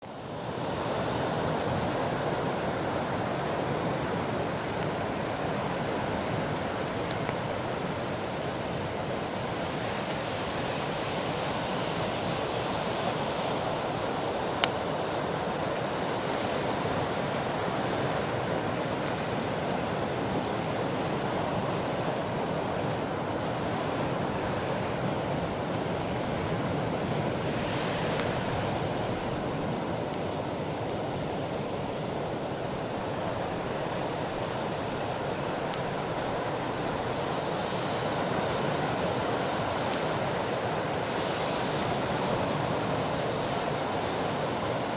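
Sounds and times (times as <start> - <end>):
bonfire crackling: 0.0 - 44.9
surf washing onto beach: 0.0 - 44.9.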